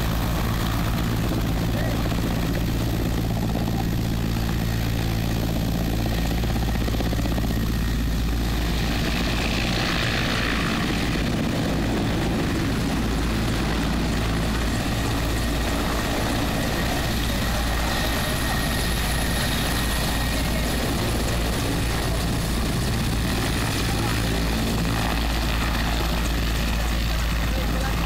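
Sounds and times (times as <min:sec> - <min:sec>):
helicopter rotor beat: 0:00.0 - 0:28.0.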